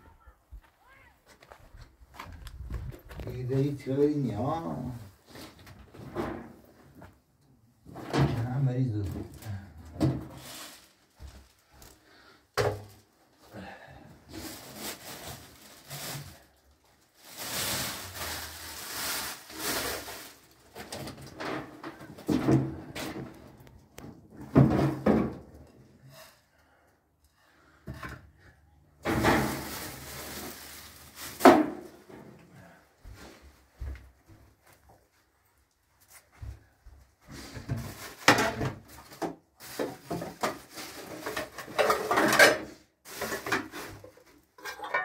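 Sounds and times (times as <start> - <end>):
rustling and scraping: 0.6 - 7.2, 7.8 - 13.2, 14.2 - 26.4, 29.0 - 45.0.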